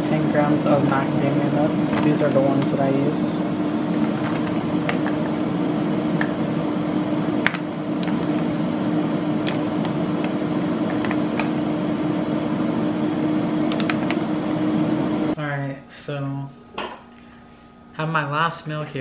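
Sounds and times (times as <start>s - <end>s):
kitchen appliance humming: 0.0s - 19.0s.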